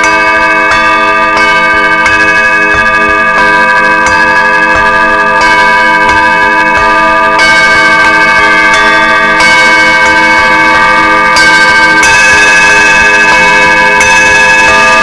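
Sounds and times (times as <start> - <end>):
ringing bell-like metal tones: 0.0 - 15.0.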